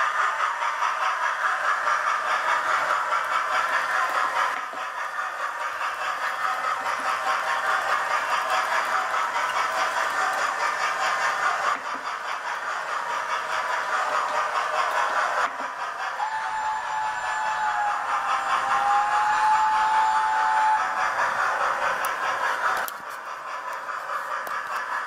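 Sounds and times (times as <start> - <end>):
model train motors whirring: 0.0 - 25.0.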